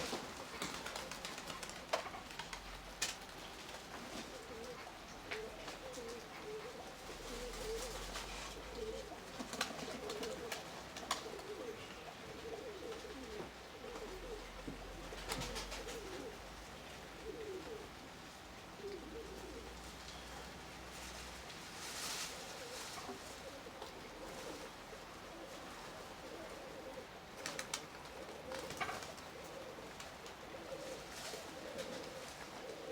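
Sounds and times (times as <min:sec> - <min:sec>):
pigeons cooing: 0:00.0 - 0:32.9.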